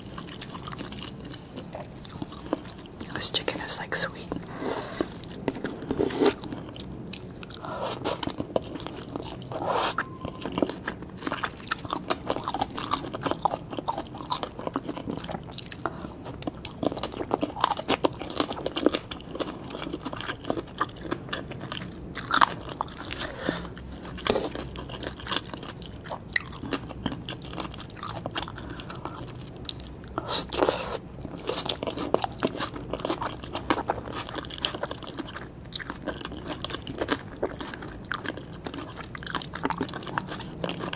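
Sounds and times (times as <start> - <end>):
crunching and chewing food: 0.0 - 40.9.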